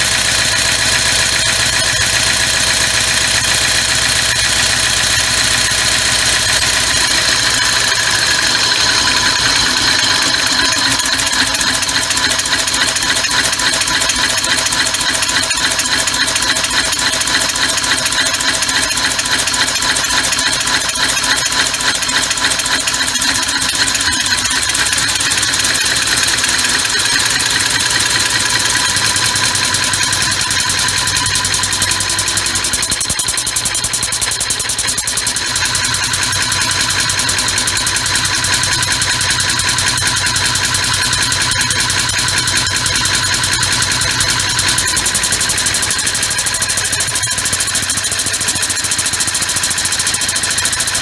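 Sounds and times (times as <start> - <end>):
compressed-air engine pulsing: 0.0 - 51.0.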